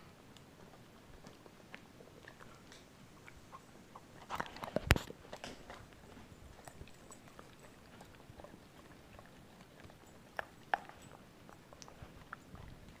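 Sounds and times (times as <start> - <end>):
dog licking a spoon: 0.4 - 13.0.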